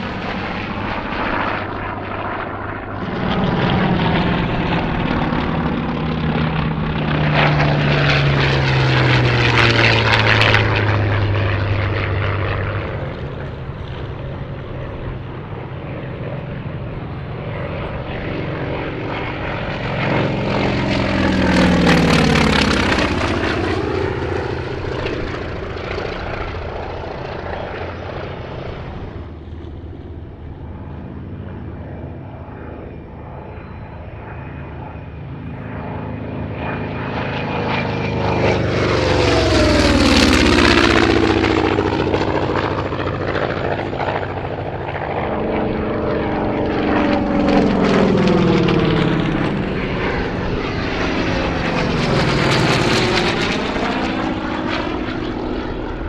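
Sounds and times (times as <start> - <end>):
propeller plane radial engine passing: 0.0 - 56.0.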